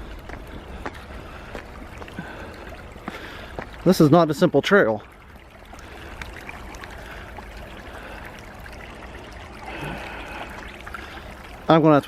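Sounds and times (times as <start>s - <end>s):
creek running over rocks: 0.0s - 12.0s.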